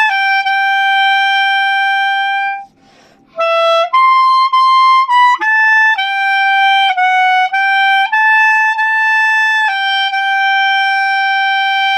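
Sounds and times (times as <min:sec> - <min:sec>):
solo clarinet melody: 0:00.0 - 0:11.9.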